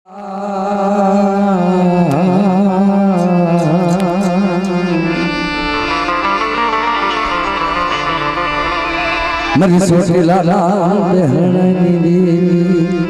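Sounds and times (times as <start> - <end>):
devotional folk music: 0.1 - 13.0.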